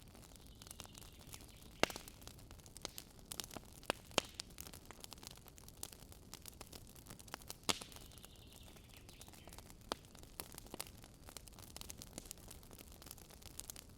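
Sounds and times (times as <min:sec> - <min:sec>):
wood fire crackling: 0:00.0 - 0:13.9.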